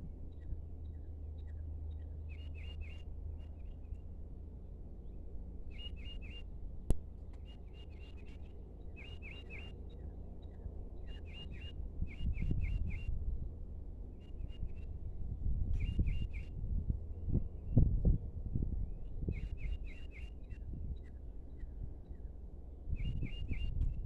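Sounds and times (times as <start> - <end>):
steady outdoor hum: 0.0 - 24.0.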